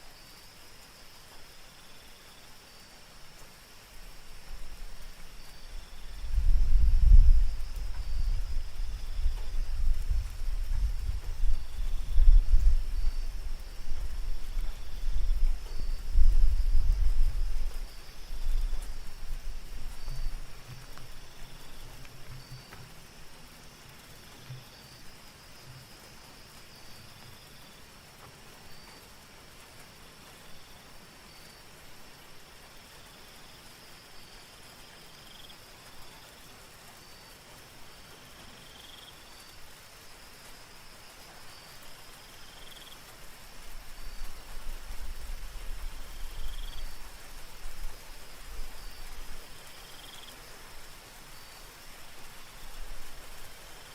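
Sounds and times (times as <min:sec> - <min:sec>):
cricket drone: 0:00.0 - 0:53.9
insects trilling: 0:00.0 - 0:53.9
soft rain hissing: 0:00.0 - 0:53.9.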